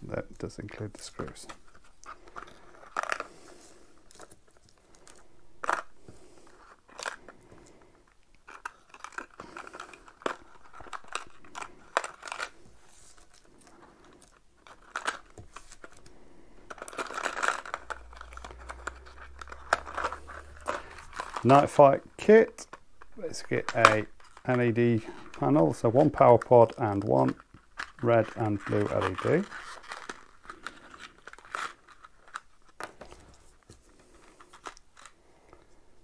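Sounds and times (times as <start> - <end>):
packaging crinkling and rustling: 0.0 - 36.0.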